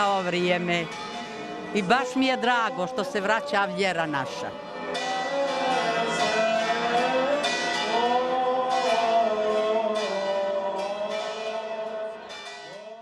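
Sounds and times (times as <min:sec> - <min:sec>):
church bells ringing: 0:00.0 - 0:13.0
person singing: 0:01.8 - 0:13.0.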